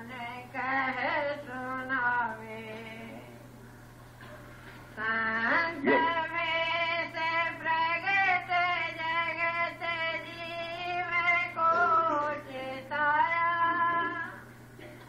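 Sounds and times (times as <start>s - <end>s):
person singing devotional song: 0.0s - 3.4s, 5.0s - 14.4s
steady low hum: 0.0s - 15.0s.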